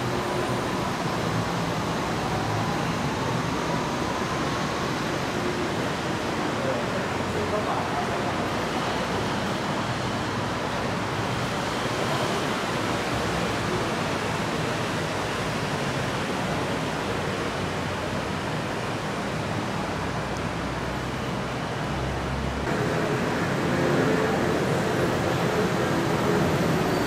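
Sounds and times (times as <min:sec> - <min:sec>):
rushing ambient noise: 0:00.0 - 0:27.0.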